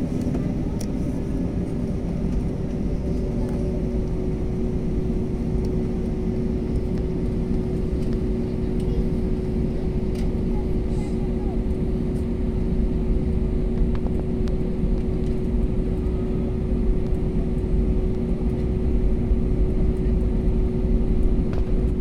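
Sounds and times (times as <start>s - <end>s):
jet engines low rumble: 0.0s - 22.0s.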